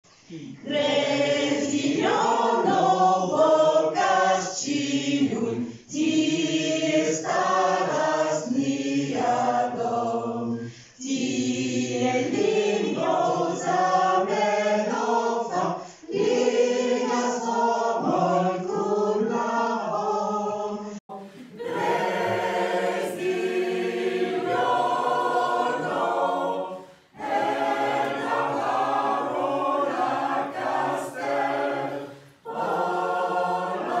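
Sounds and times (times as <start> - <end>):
choir singing: 0.6 - 34.0.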